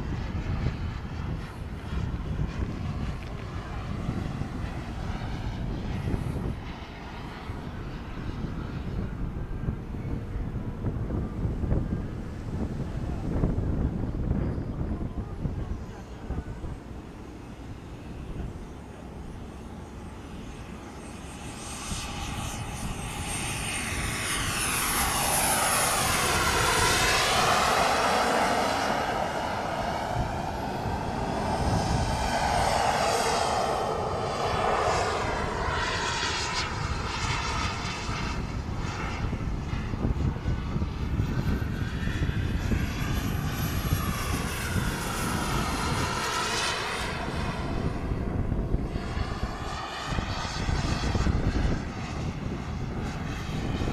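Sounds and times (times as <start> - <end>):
model airplane engine whine: 0.0 - 53.9.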